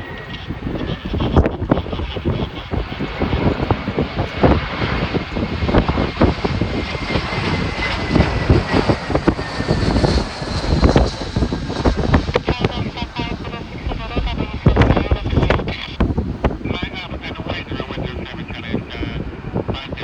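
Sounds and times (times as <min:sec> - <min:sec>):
jet airliner passing: 0:00.0 - 0:20.0
jet engine whine falling in pitch: 0:00.0 - 0:20.0
wind buffeting microphone: 0:00.0 - 0:20.0.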